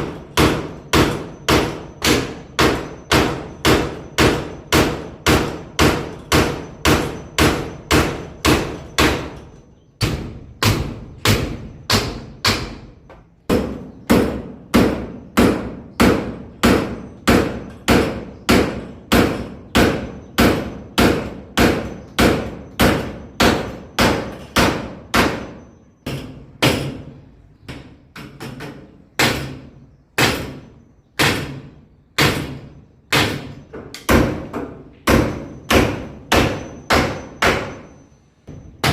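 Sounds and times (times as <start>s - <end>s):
hammer striking nails: 0.0s - 38.9s.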